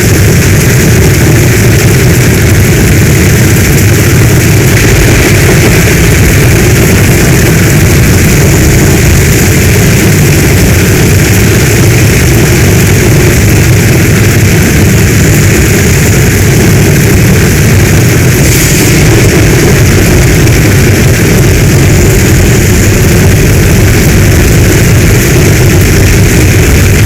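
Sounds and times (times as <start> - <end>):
heavy rain pouring: 0.0 - 27.0
low continuous rumble: 0.0 - 27.0.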